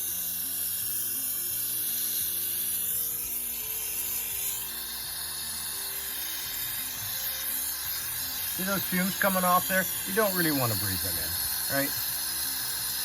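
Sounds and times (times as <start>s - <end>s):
soft background music: 0.0s - 13.0s
torch flame hissing: 0.0s - 13.0s.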